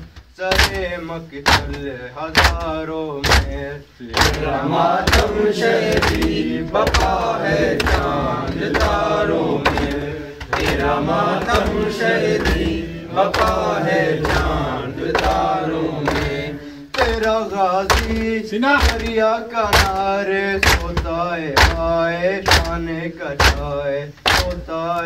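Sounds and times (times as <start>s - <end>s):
man chanting a lament: 0.0s - 25.0s
rhythmic chest-beating slaps: 0.0s - 25.0s.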